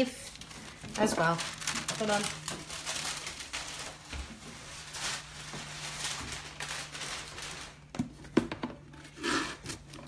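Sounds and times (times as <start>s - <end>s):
paper rustling and crinkling: 0.0s - 8.4s.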